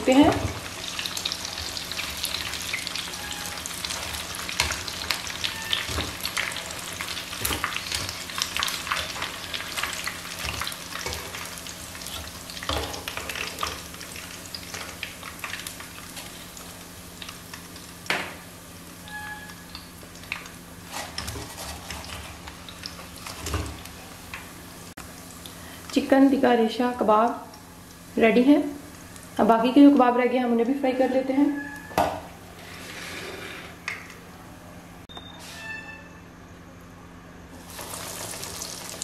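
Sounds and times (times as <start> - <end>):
food frying in hot oil: 0.0 - 30.3, 37.5 - 39.0.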